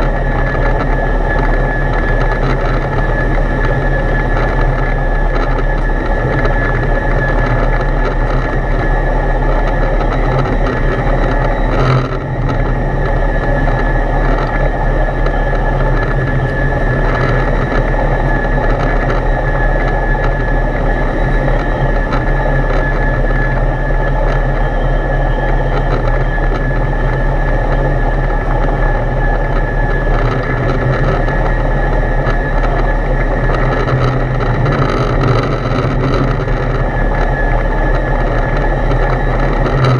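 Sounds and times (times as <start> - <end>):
aircraft engine and propeller droning: 0.0 - 39.9
thin high whine: 0.0 - 39.9.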